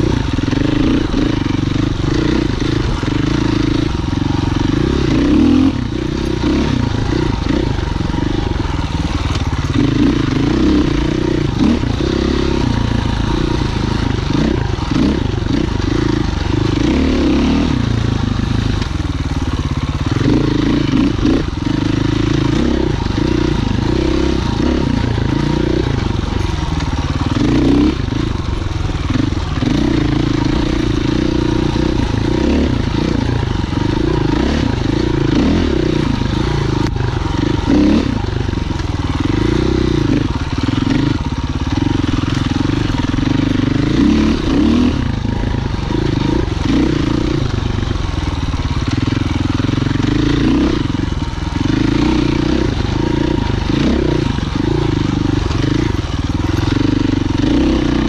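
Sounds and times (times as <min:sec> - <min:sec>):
knocks and clatter from bike: 0:00.0 - 0:58.0
motorcycle engine revving: 0:00.0 - 0:58.0.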